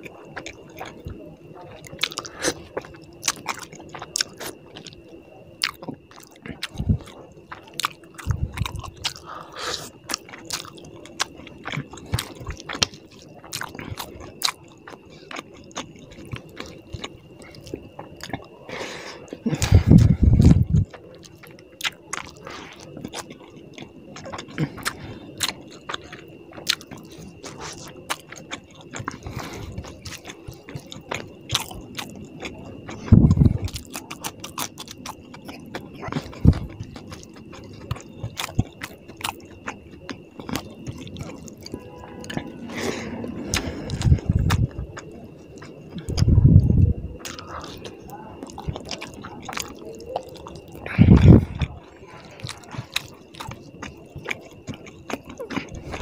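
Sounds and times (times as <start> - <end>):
person chewing with lip smacks: 0.0 - 18.6, 19.2 - 56.0.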